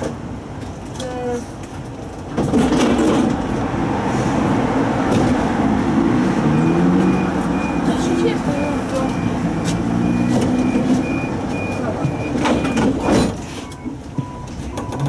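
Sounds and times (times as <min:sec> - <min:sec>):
tram running noise: 0:00.0 - 0:15.0.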